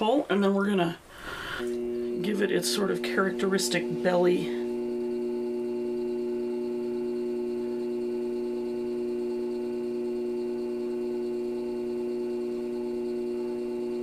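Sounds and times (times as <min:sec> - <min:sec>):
pottery wheel motor humming: 0:00.0 - 0:14.0.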